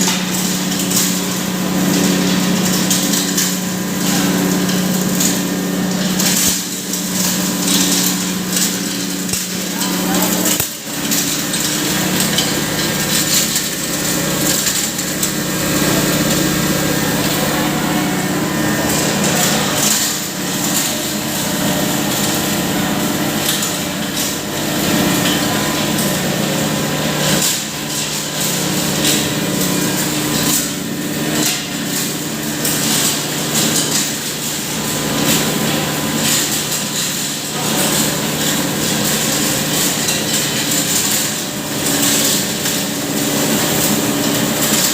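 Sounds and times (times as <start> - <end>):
hammer mill grinding rattle: 0.0 - 44.9.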